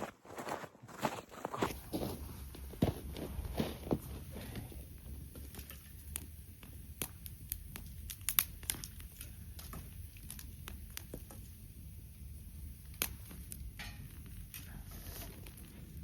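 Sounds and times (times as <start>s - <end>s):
campfire crackling and popping: 1.7s - 16.0s
low steady rumble: 1.8s - 16.0s.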